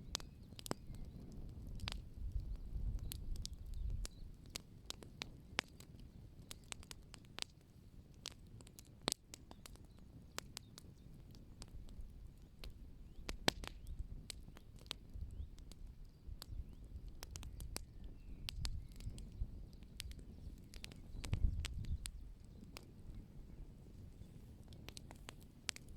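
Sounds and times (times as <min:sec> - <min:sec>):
low fire rumble: 0:00.0 - 0:25.9
wood fire crackling: 0:00.0 - 0:25.9.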